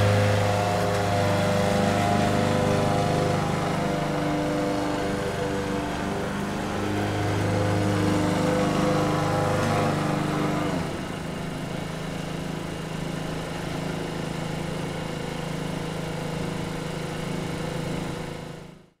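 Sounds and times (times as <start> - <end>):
lawn mower engine running: 0.0 - 18.8.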